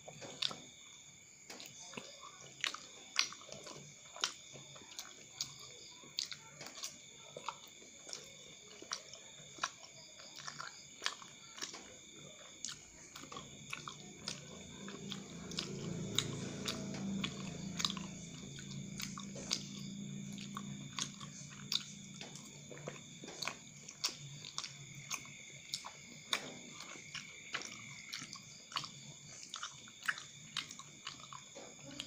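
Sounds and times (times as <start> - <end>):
chewing with wet mouth sounds: 0.0 - 32.0
low steady hum: 0.0 - 32.0.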